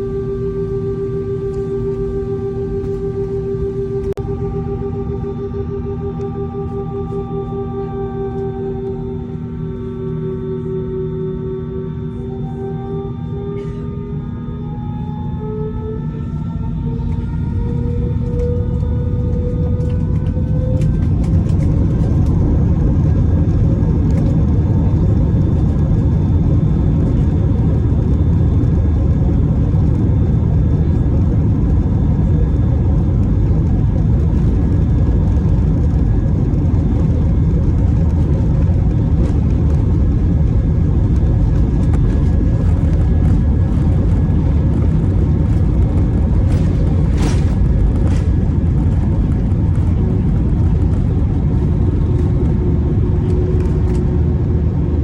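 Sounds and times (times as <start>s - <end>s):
faint steady whines: 0.0s - 55.0s
jet engines rumbling: 0.0s - 55.0s.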